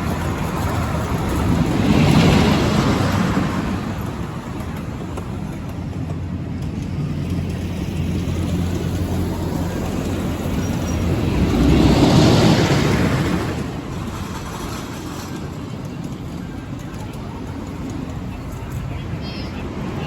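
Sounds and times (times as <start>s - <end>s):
ride train rumbling on track: 0.0s - 20.0s.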